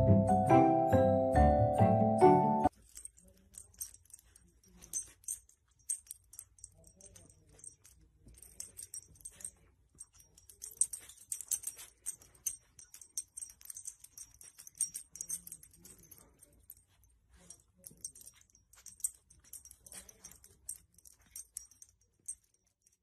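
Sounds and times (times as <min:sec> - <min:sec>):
dog collar jingling: 0:02.7 - 0:23.0.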